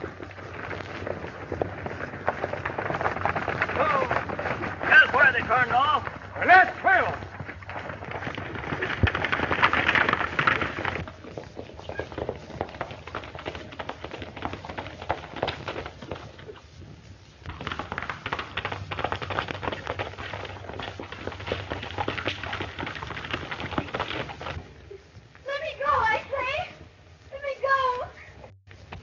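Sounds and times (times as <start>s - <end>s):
horses galloping hoofbeats: 0.0s - 29.0s.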